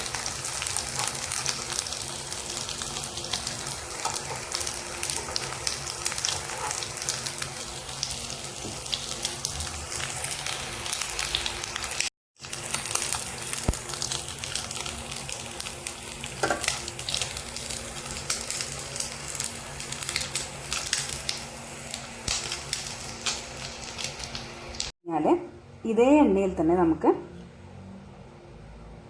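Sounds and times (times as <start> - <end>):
fish sizzling in oil with pops: 0.0 - 24.9.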